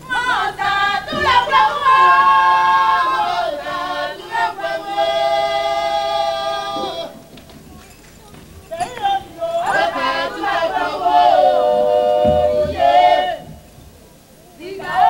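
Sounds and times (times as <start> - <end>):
group singing unaccompanied: 0.0 - 7.5, 8.6 - 13.9, 14.5 - 15.0.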